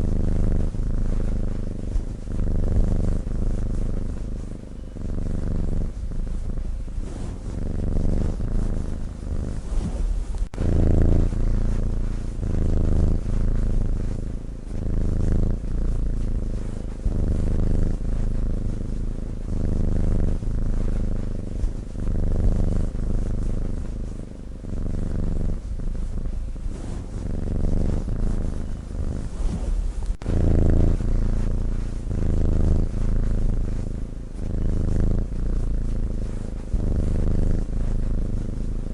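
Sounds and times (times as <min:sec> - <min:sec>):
cat snoring: 0:00.0 - 0:38.9.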